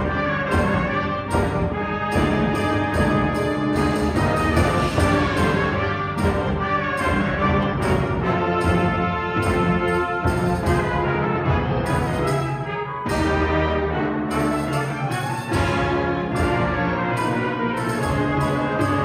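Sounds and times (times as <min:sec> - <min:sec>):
concert band playing: 0:00.0 - 0:19.0.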